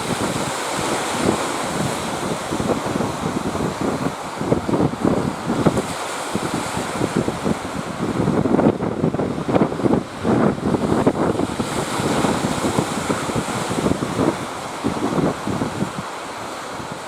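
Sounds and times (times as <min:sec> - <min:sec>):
surf: 0:00.0 - 0:17.0
wind buffeting microphone: 0:00.0 - 0:17.0.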